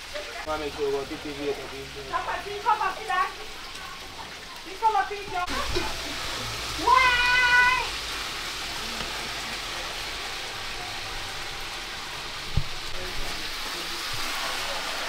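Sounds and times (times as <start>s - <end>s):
hiss of food frying: 0.0s - 15.0s.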